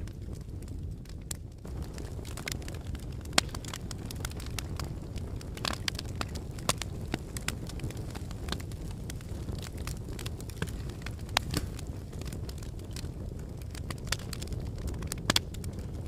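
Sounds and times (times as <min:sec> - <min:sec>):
low volcanic rumble: 0:00.0 - 0:16.0
sharp cracks and crackles: 0:00.0 - 0:16.0.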